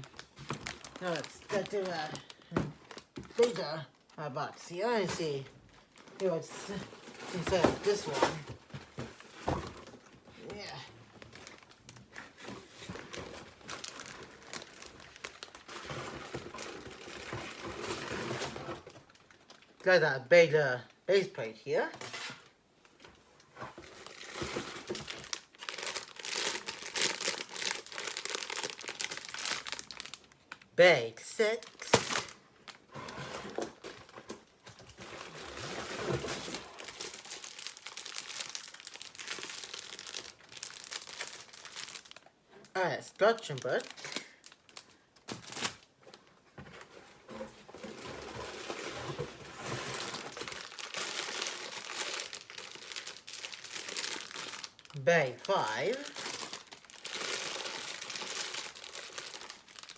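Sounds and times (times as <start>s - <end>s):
plastic bags crinkling: 0.0s - 19.8s, 22.8s - 30.8s, 31.4s - 32.9s, 33.6s - 59.9s.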